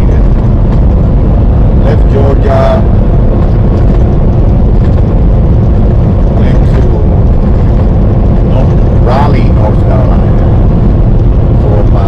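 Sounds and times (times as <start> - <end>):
truck driving low rumble: 0.0 - 12.0.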